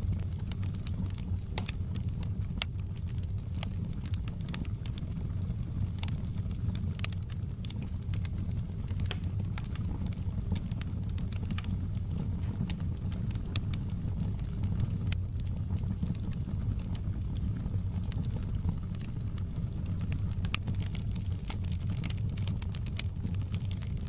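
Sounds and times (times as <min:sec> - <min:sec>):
wood fire crackling and roaring: 0:00.0 - 0:24.0.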